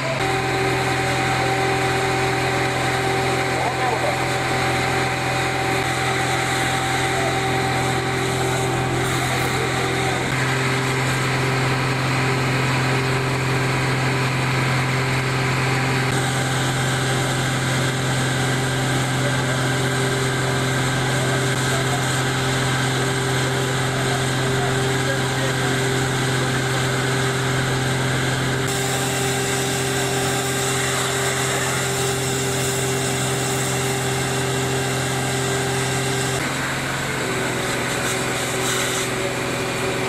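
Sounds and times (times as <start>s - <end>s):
pump engine running: 0.0s - 40.0s.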